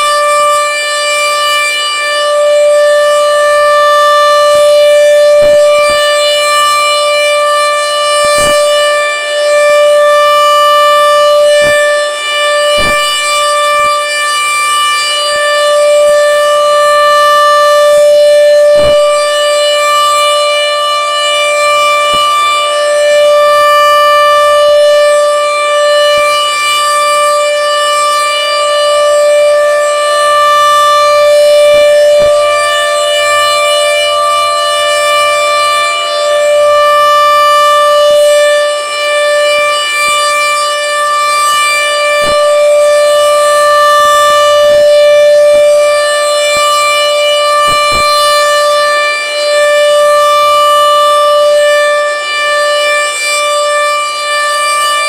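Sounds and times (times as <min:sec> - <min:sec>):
rotating storm siren: 0:00.0 - 0:55.0.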